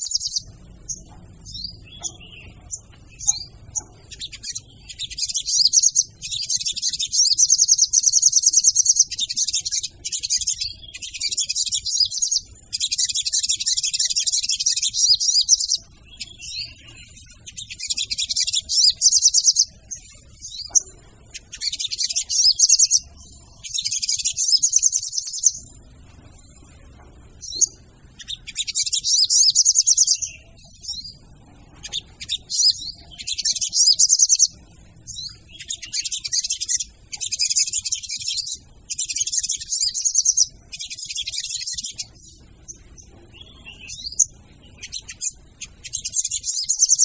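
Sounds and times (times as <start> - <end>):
bird trilling call: 0.0 - 25.7, 27.4 - 31.2, 31.8 - 42.1.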